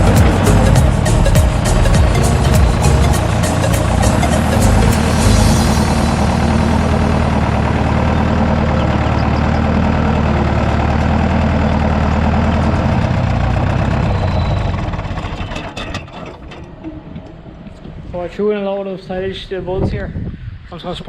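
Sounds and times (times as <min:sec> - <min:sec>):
tractor engine idling: 0:00.0 - 0:18.3.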